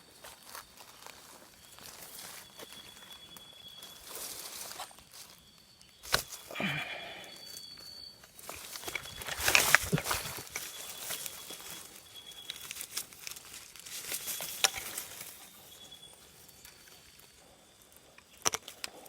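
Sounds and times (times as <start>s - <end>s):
faint high steady tone: 0.0s - 19.0s
rustling through vegetation: 0.0s - 19.0s.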